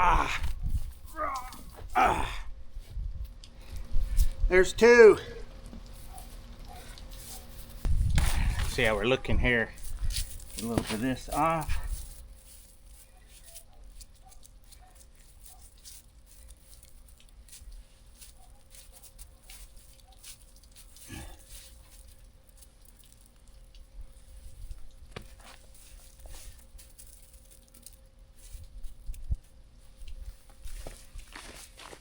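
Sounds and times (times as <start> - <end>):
wet snow crunching and scraping: 5.5 - 32.0.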